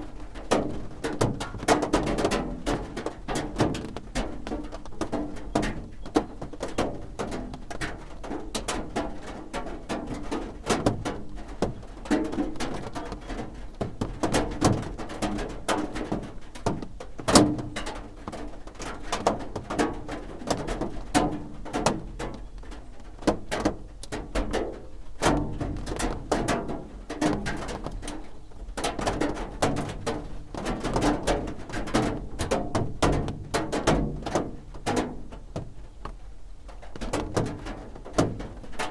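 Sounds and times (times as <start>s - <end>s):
raindrops drumming on a roof: 0.0s - 38.9s.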